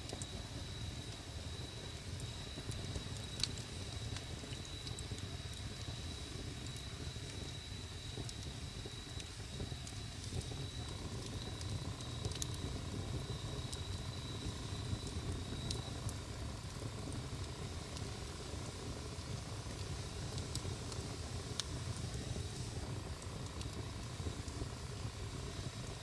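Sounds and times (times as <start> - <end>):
campfire rumble: 0.0 - 26.0
fire crackling pops: 0.0 - 26.0.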